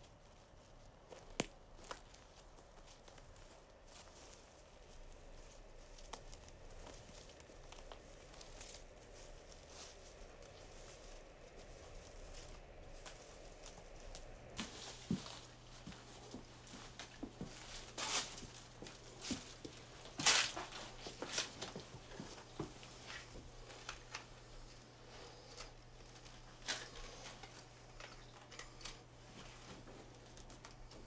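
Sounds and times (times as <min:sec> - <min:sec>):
clothing rustling: 0:00.0 - 0:31.0
steady low hum: 0:00.0 - 0:31.0
shuffling feet: 0:00.3 - 0:27.8.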